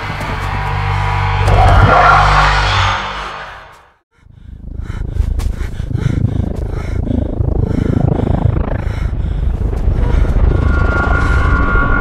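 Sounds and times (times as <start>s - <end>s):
deep rumbling spaceship drone: 0.0s - 12.0s.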